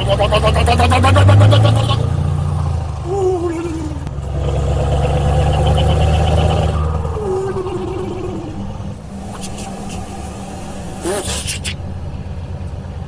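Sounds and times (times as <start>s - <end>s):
man imitating an engine: 0.0s - 12.0s
truck engine droning: 0.0s - 13.0s.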